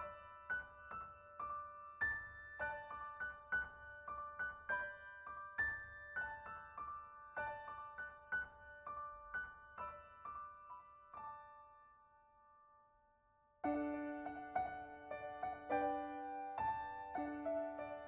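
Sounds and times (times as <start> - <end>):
soft solo piano music: 0.0 - 12.9, 13.6 - 18.0.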